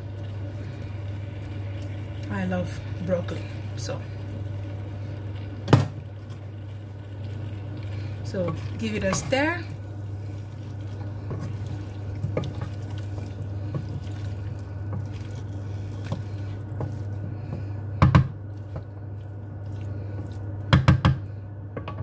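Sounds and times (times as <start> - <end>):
low hum: 0.0 - 21.9
spoon stirring wet stew: 0.1 - 17.8.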